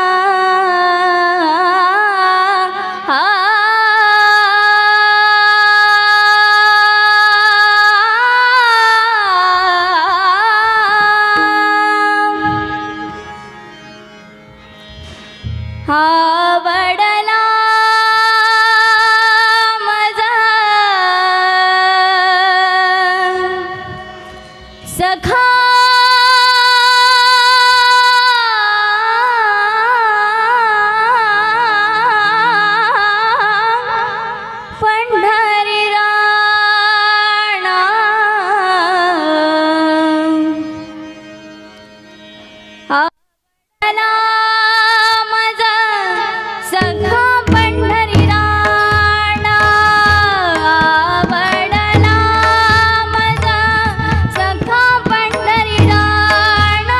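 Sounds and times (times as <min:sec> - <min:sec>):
woman singing devotional song: 0:00.0 - 0:13.5, 0:15.8 - 0:41.2, 0:43.8 - 0:56.9.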